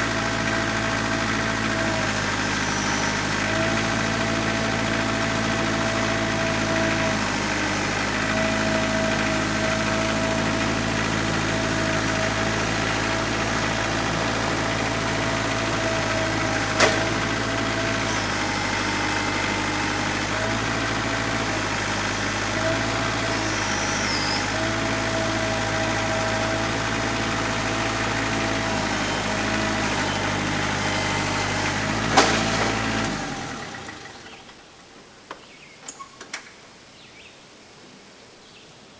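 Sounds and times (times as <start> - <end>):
engine idling: 0.0 - 34.7.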